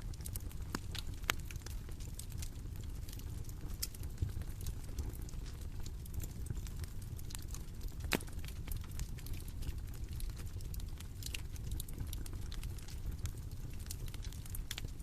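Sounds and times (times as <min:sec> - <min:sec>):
bonfire crackling and popping: 0:00.0 - 0:15.0
low rumble of flame: 0:00.0 - 0:15.0.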